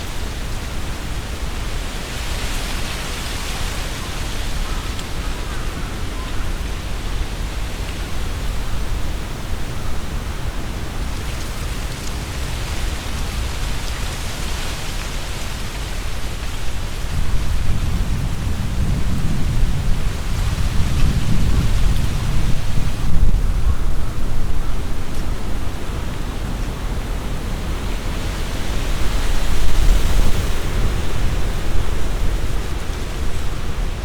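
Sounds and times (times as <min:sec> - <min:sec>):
leaves rustling: 0:00.0 - 0:34.0
wind buffeting microphone: 0:00.0 - 0:34.0
wind gusting through trees: 0:00.0 - 0:34.0.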